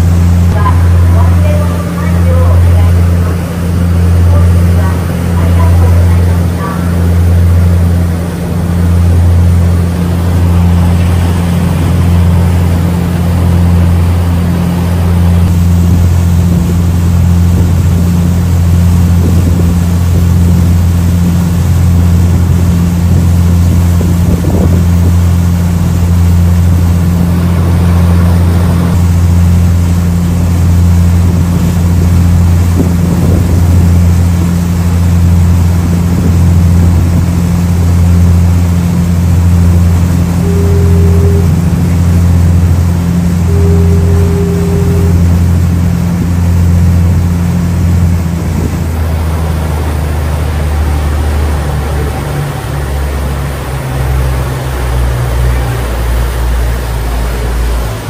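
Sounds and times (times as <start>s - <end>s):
diesel engine droning: 0.0s - 58.0s
steady rushing noise: 0.0s - 58.0s.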